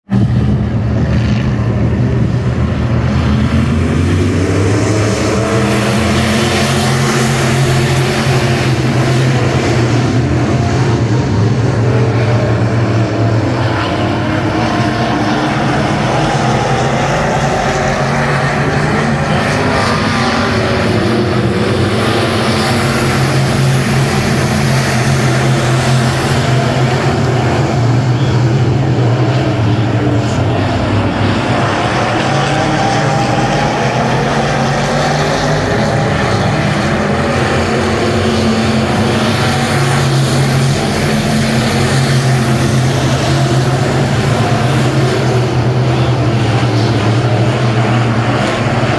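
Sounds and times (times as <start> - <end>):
race car engines droning: 0.0 - 48.9.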